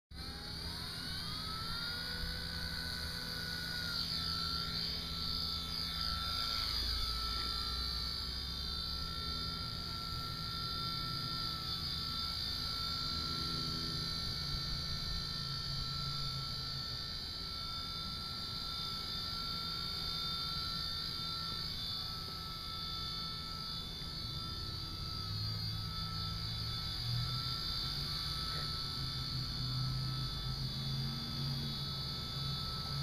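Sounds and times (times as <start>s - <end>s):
rc helicopter rotor whine: 0.1s - 33.0s.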